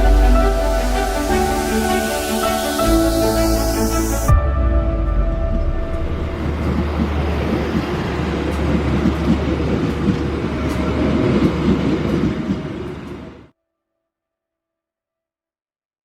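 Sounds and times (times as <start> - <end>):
rumbling rail noise: 0.0 - 13.5
train engine drone: 0.0 - 13.5.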